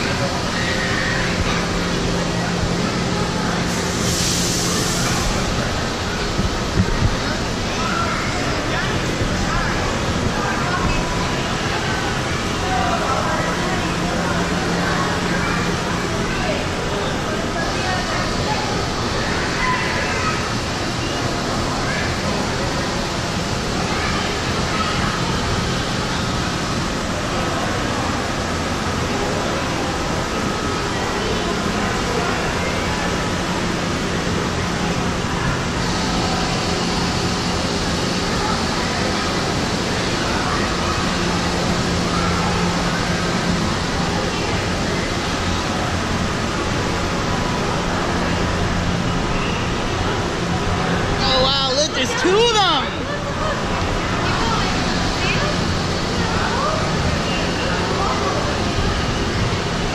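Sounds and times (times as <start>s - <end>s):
faint voices: 0.0s - 59.9s
loud rushing water noise: 0.0s - 59.9s.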